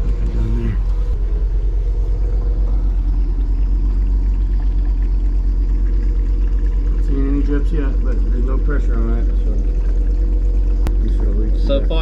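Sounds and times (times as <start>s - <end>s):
pump humming with fast pulse: 0.0s - 12.0s
water pouring: 0.0s - 12.0s.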